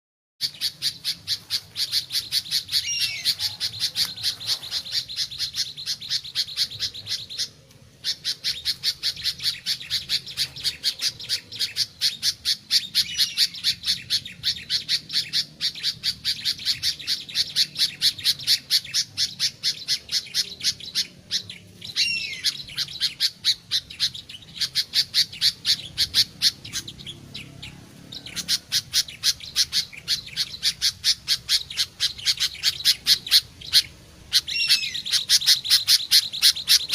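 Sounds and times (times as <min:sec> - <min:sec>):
bird chirping: 0:00.4 - 0:36.9.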